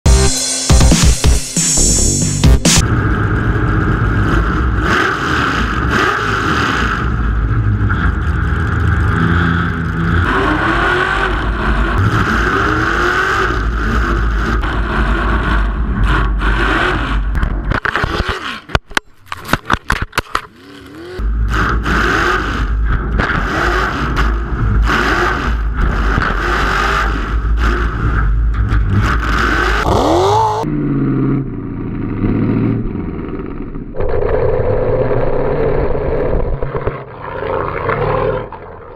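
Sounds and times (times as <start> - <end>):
truck engine revving: 0.1 - 18.8, 20.4 - 38.9.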